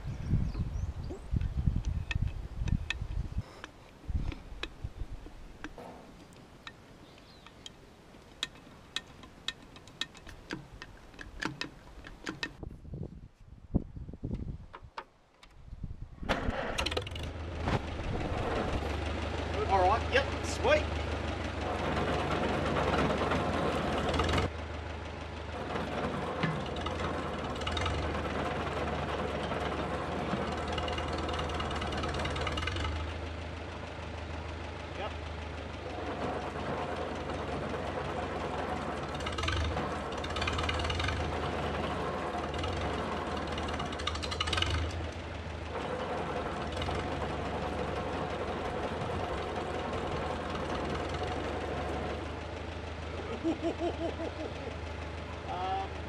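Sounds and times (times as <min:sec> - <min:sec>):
tractor engine clattering: 0:01.3 - 0:12.7, 0:16.2 - 0:56.0.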